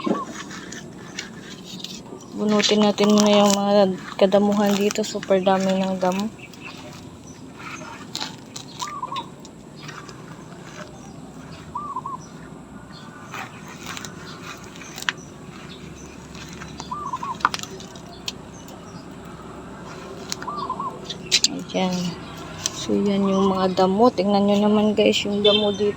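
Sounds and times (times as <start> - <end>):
weeds crackling as pulled: 0.0 - 25.9.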